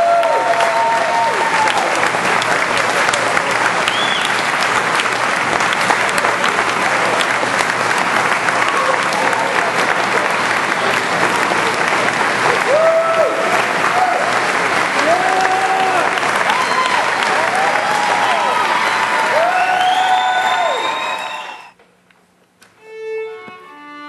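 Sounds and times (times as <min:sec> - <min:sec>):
crowd cheering: 0:00.0 - 0:21.8
crowd clapping: 0:00.0 - 0:21.8.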